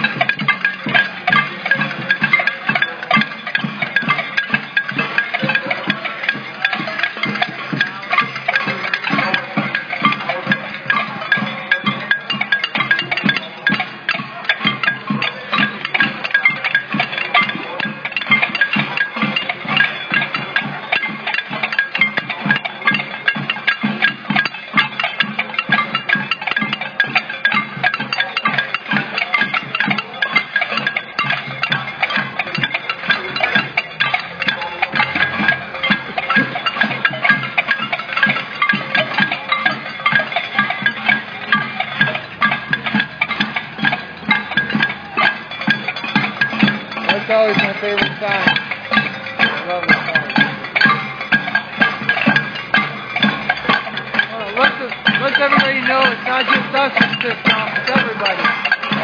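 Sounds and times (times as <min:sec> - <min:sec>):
music with fast percussive hits: 0:00.0 - 0:59.0.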